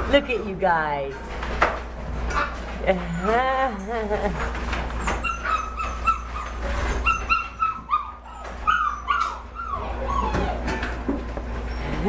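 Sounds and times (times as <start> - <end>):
puppies whimpering and squealing: 2.3 - 12.0.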